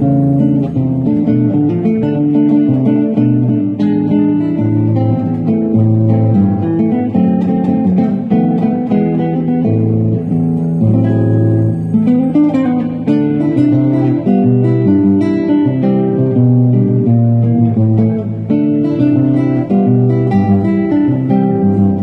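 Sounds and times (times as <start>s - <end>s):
fingerstyle acoustic guitar: 0.0s - 22.0s.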